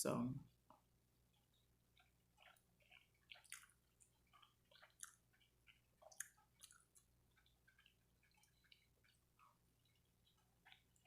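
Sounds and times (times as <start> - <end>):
person chewing food: 0.5 - 11.0.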